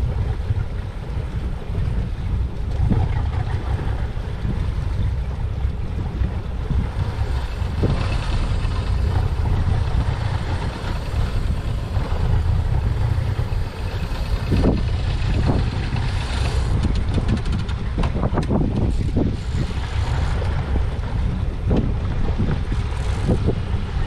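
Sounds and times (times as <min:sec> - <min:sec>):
boat engine: 0:00.0 - 0:24.0
water washing past hull: 0:00.0 - 0:24.0
wind on microphone: 0:00.0 - 0:24.0.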